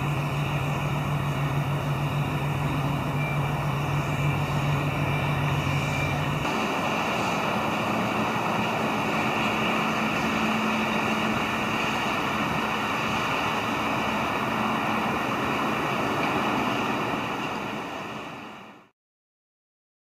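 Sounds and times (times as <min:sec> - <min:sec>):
outdoor wind: 0:00.0 - 0:18.9
traffic noise: 0:00.0 - 0:18.9.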